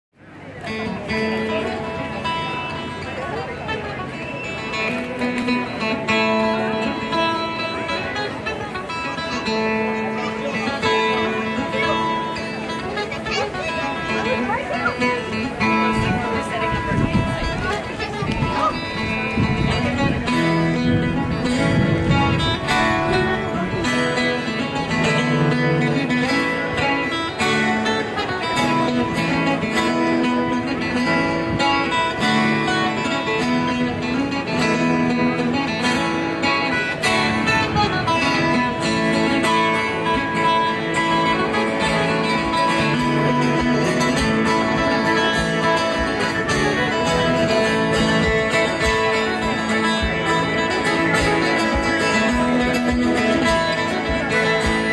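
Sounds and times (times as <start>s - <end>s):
fiddle melody: 0.2s - 54.9s
strummed acoustic guitars: 0.2s - 54.9s.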